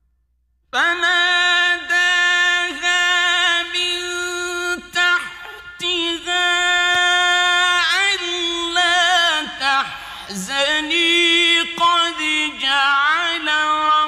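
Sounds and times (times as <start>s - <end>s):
man reciting melodically: 0.8s - 14.0s.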